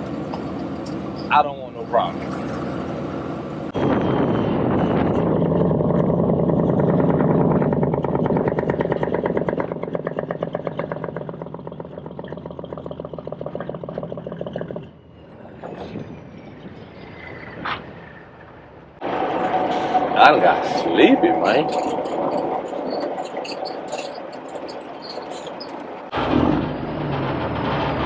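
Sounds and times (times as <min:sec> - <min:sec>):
diesel truck engine under load: 0:00.0 - 0:28.0.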